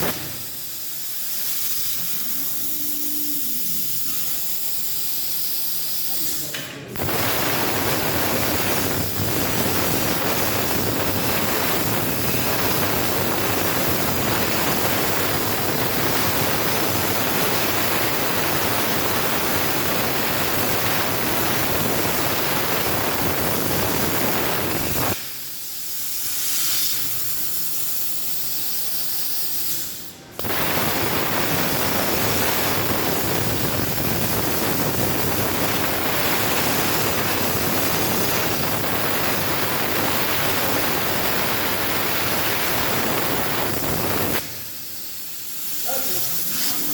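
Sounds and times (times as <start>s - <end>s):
plasma cutter torch hissing: 0.0s - 46.9s.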